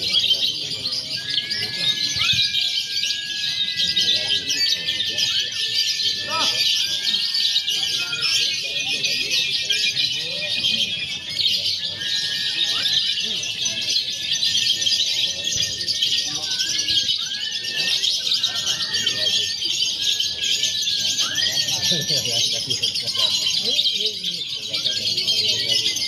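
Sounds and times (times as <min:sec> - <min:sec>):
lovebirds chirping and trilling: 0:00.0 - 0:26.0
murmur of voices: 0:00.0 - 0:26.0.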